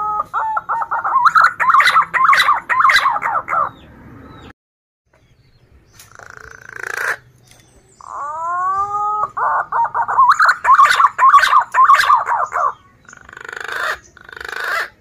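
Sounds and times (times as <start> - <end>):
pigeon whistling song: 0.0 - 4.5, 6.0 - 15.0.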